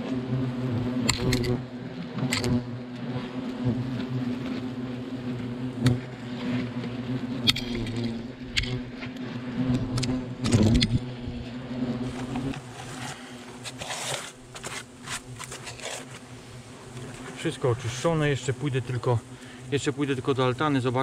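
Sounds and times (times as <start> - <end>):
hornet passing close by: 0.0 - 21.0
hornets buzzing: 0.0 - 21.0.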